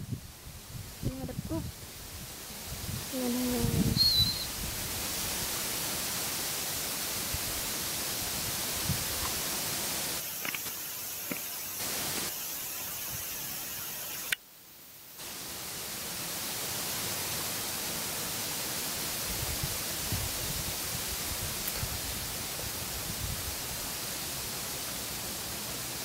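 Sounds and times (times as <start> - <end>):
microphone hiss: 0.0 - 26.0.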